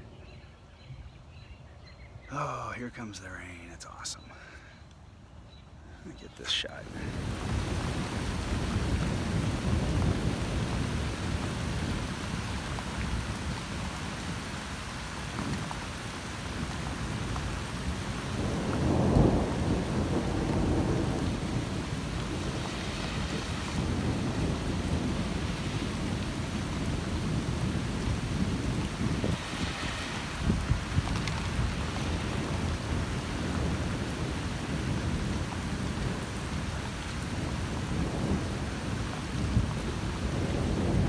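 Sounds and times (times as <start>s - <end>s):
rain falling: 2.3s - 4.7s, 5.9s - 41.0s.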